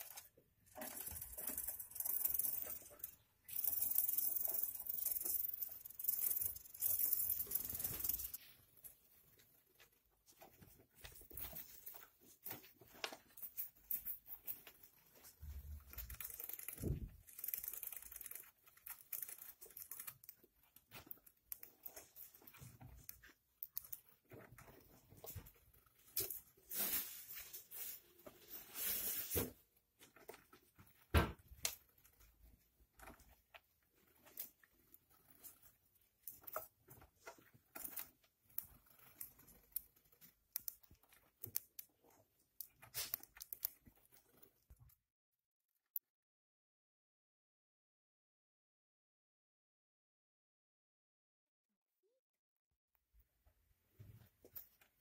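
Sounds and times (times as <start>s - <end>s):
gerbils nibbling and gnawing: 0.0s - 45.1s.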